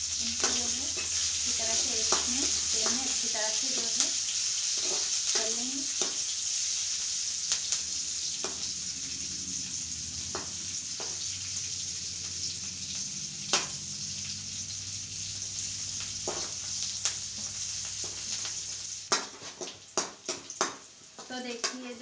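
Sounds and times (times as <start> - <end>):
garlic and chillies sizzling in oil: 0.0 - 22.0.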